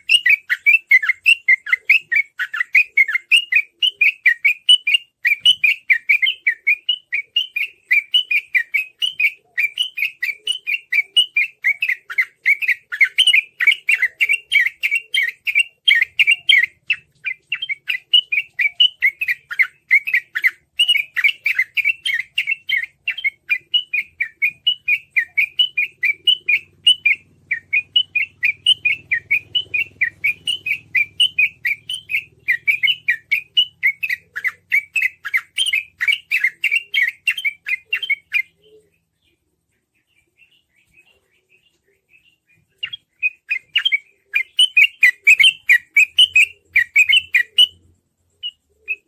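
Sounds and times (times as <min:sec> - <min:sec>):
bird singing rapid chirps: 0:00.0 - 0:49.0.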